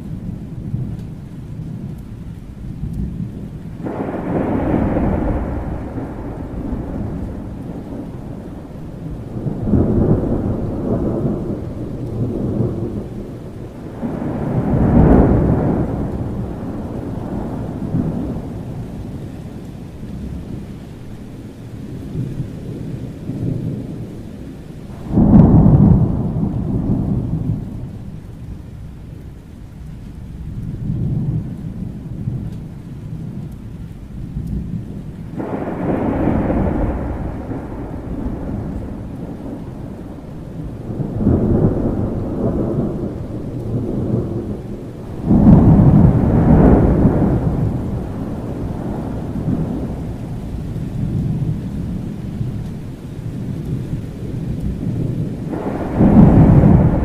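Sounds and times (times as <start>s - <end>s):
rain rumbling: 0.0s - 57.0s
thunder rolling: 2.7s - 20.8s, 21.9s - 57.0s.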